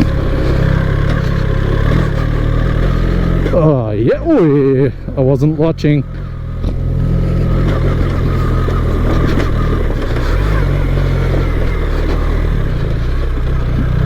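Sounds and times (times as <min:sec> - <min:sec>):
motorcycle engine running: 0:00.0 - 0:14.0
tyres on dirt track: 0:00.0 - 0:14.0.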